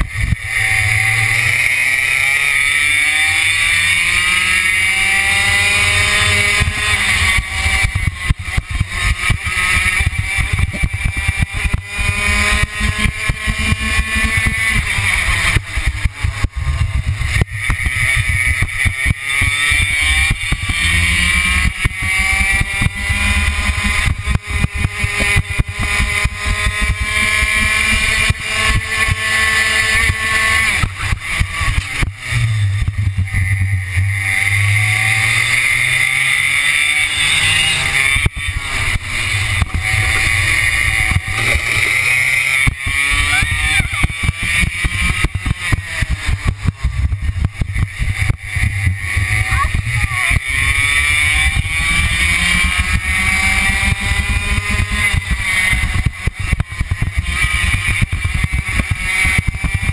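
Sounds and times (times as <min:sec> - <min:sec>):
racing kart engine: 0:00.0 - 0:59.9.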